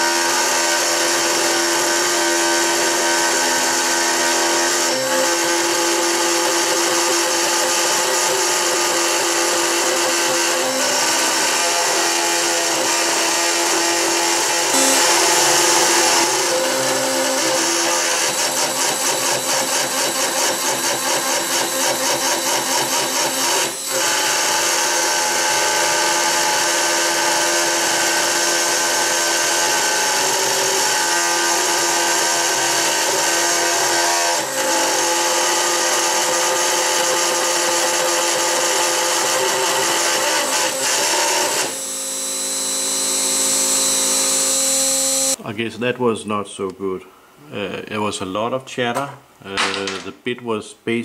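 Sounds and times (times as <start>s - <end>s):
router bit chattering through metal: 0.1s - 45.4s.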